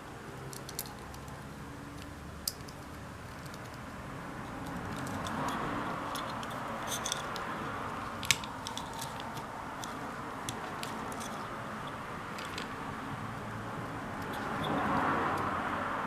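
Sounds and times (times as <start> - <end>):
small parts clicking and tapping: 0.3 - 12.8, 14.2 - 15.6.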